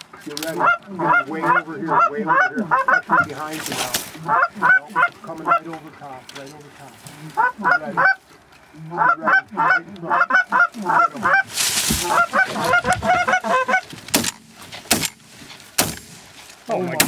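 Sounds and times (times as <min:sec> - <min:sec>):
geese honking: 0:00.0 - 0:14.6.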